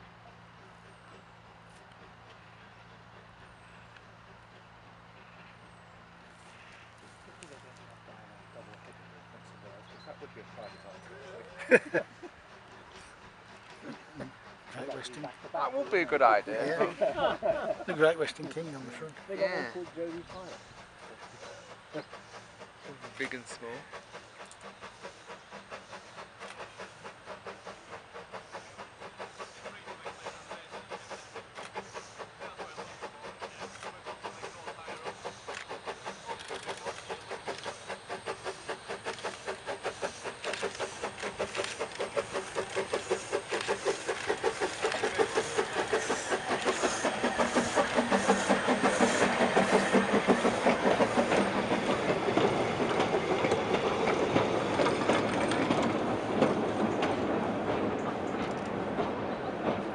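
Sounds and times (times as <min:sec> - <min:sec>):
steam locomotive exhaust beating: 0:00.0 - 0:59.9.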